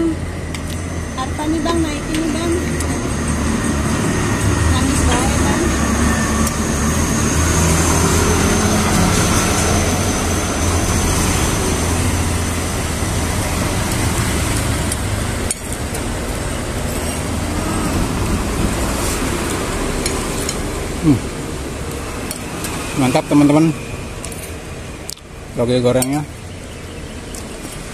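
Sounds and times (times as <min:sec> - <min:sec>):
road traffic noise: 0:00.0 - 0:27.9.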